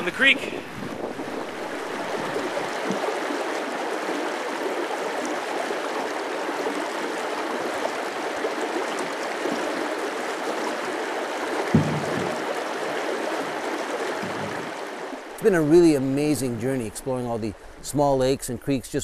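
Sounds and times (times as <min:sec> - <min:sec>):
creek rushing over rocks: 0:00.0 - 0:18.8.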